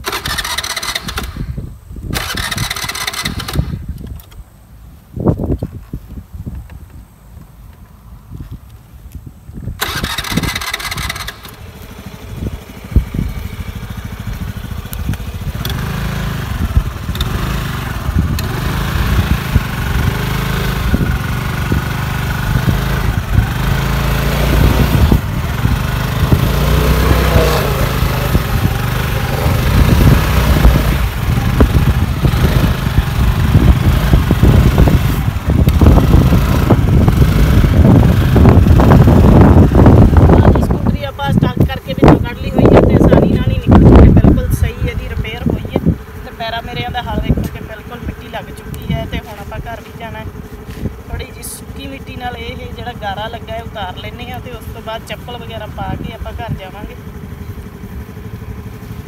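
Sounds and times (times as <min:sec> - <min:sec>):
scooter engine revving: 0:00.0 - 0:03.9, 0:09.8 - 0:59.0.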